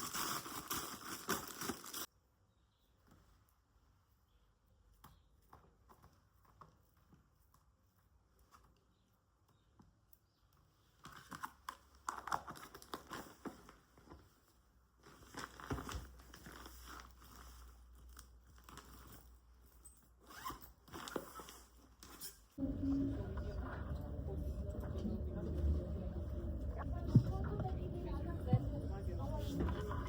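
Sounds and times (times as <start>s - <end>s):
rustling and crinkling: 0.0s - 2.2s, 2.8s - 30.0s.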